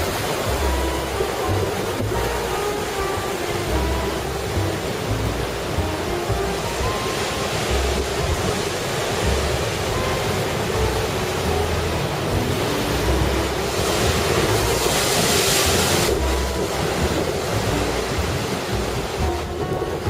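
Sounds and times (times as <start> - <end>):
hissing wash of surf: 0.0 - 20.0
ocean waves breaking: 0.0 - 20.0
wind buffeting microphone: 0.0 - 20.0.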